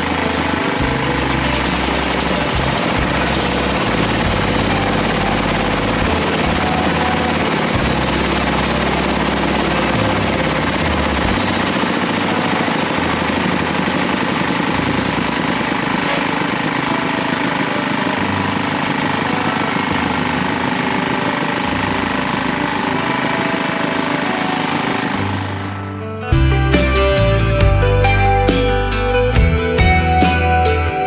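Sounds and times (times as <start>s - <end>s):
drilling rig machinery running: 0.0s - 26.0s.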